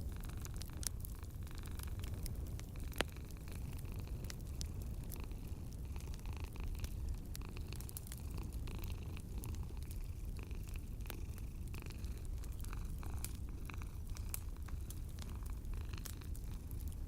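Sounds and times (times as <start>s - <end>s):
cat purring: 0.0s - 17.0s
wood fire crackling: 0.0s - 17.0s.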